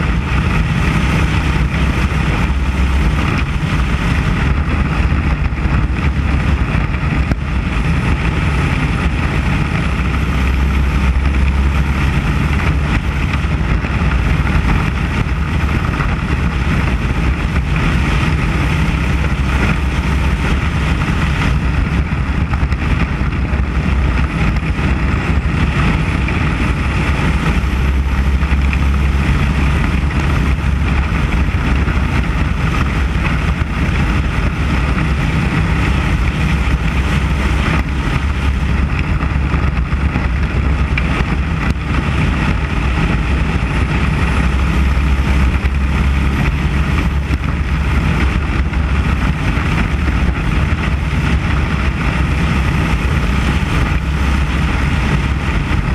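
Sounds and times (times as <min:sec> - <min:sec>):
race car engine running hard: 0:00.0 - 0:55.9
wind noise on microphone: 0:00.0 - 0:55.9.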